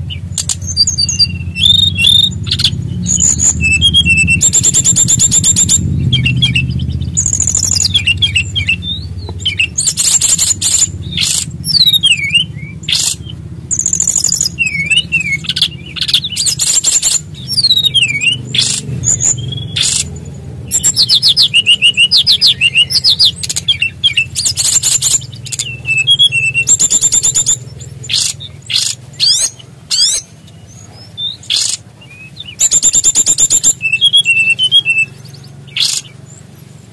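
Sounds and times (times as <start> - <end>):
songbird singing trills and whistles: 0.0 - 36.9
steady low hum: 0.0 - 36.9.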